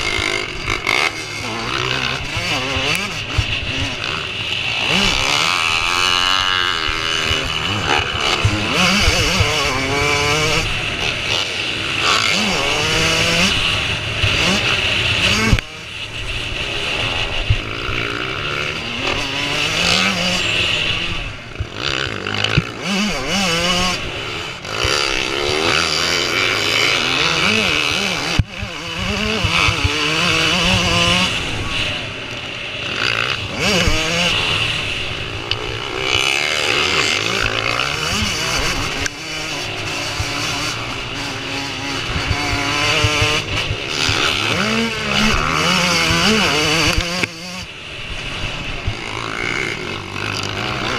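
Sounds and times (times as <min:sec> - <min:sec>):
motorcycle engines revving: 0:00.0 - 0:50.9.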